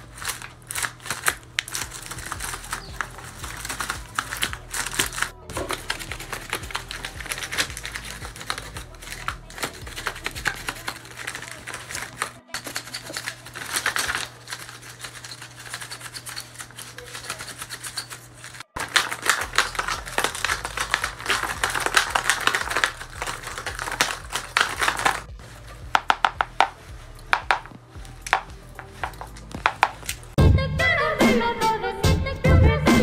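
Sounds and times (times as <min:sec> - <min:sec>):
paper rustling: 0:00.0 - 0:30.4.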